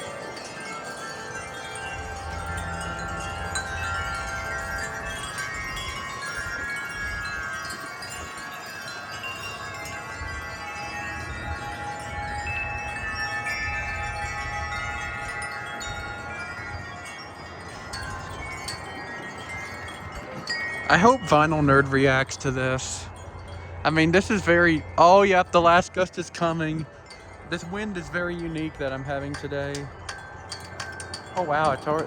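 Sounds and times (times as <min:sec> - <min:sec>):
wind chimes ringing: 0:00.0 - 0:32.0
wind rumbling on microphone: 0:00.0 - 0:32.0.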